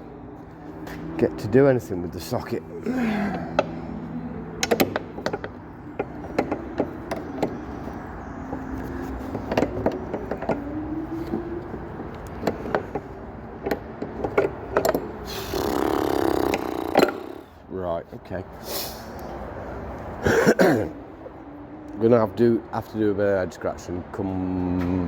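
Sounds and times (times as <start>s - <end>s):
low background hum: 0.0s - 23.8s.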